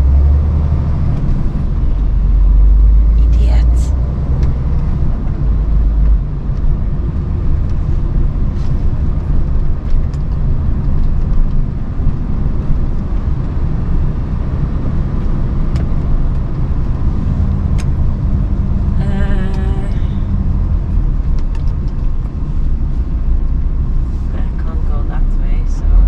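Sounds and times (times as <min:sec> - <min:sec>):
lorry engine rumble: 0:00.0 - 0:26.0
road noise: 0:00.0 - 0:26.0.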